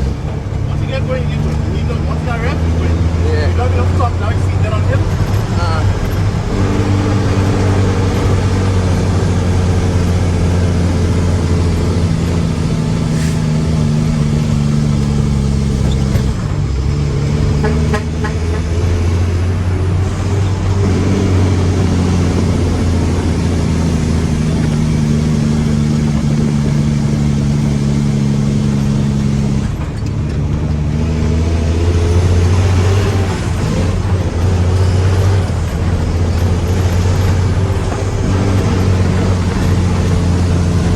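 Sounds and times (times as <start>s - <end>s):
diesel truck engine running hard: 0.0s - 40.9s.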